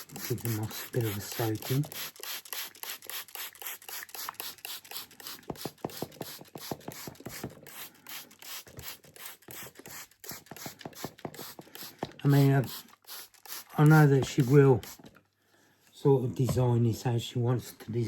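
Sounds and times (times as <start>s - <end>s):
spray bottle spritzes: 0.0s - 15.1s.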